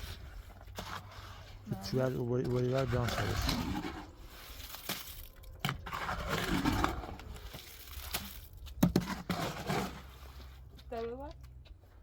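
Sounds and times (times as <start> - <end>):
crunching scrapes: 0.0 - 12.0.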